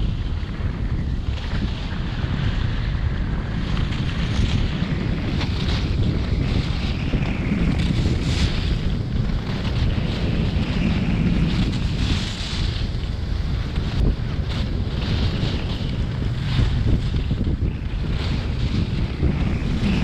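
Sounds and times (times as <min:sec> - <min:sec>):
skis scraping on snow: 0:00.0 - 0:20.0
wind rushing over microphone: 0:00.0 - 0:20.0.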